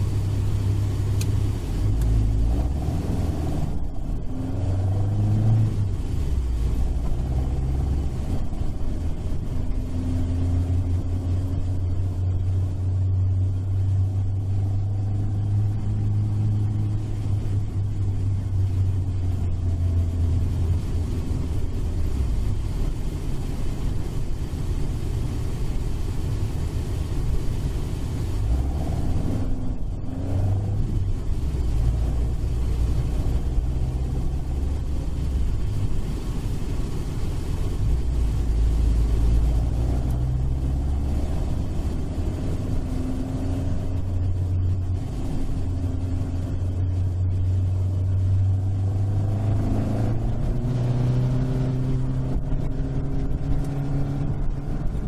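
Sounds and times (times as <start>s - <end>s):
car engine revving from inside cabin: 0.0s - 25.3s, 27.0s - 55.0s.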